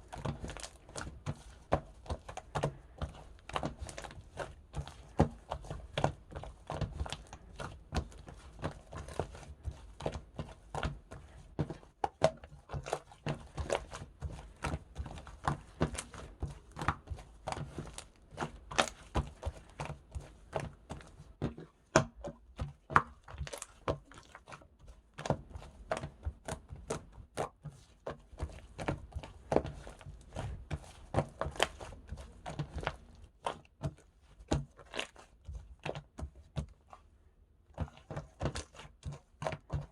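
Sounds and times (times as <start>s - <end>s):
slime squished by hand: 0.1s - 37.1s, 37.7s - 39.9s.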